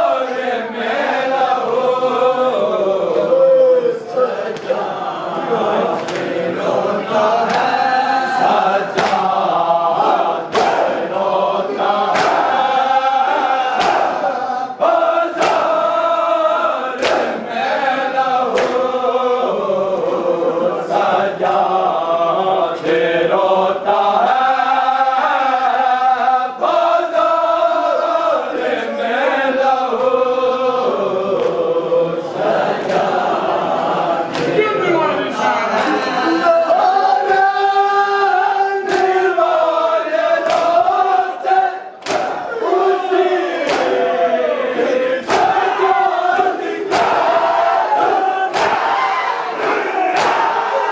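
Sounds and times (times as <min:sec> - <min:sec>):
group chanting in unison: 0:00.0 - 0:50.9.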